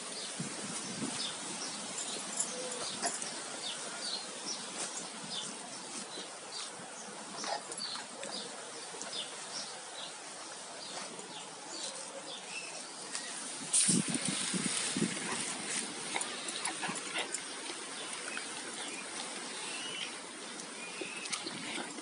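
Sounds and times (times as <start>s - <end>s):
steady outdoor hiss: 0.0s - 22.0s
small birds chirping: 0.2s - 13.5s, 14.2s - 22.0s.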